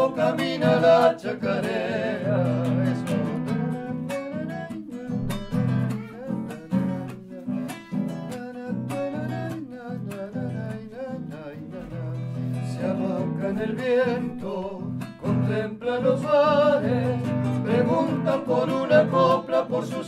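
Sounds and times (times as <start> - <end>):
acoustic guitar folk music: 0.0 - 20.0.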